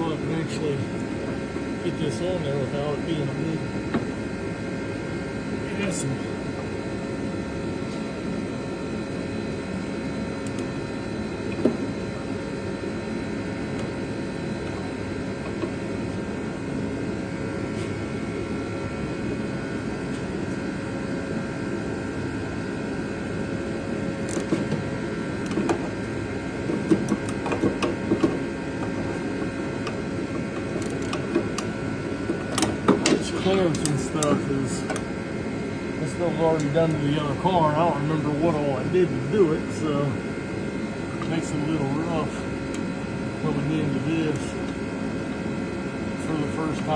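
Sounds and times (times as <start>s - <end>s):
mechanical drone: 5.2s - 45.5s.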